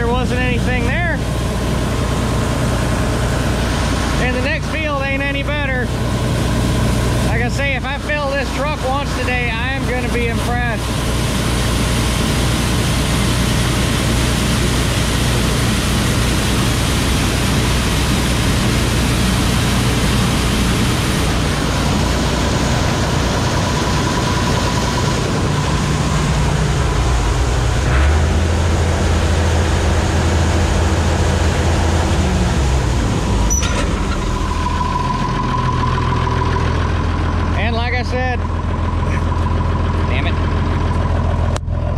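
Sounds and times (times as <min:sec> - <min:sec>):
combine harvester machinery drone: 0:00.0 - 0:41.9.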